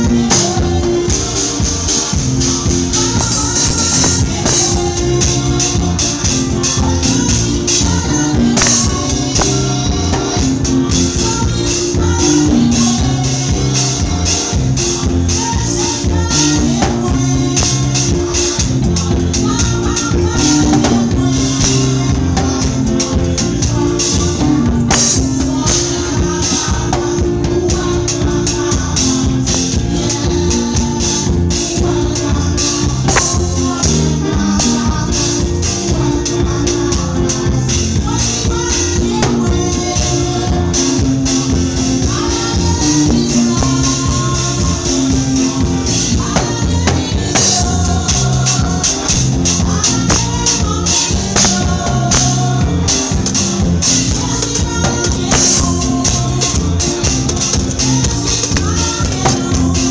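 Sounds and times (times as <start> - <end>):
drum kit: 0.0 - 59.9
sustained bass and chord notes: 0.0 - 59.9.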